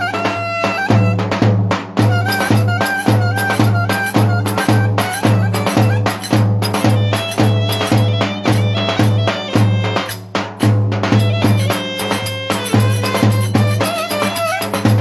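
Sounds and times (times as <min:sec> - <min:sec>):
folk dance band music: 0:00.0 - 0:15.0.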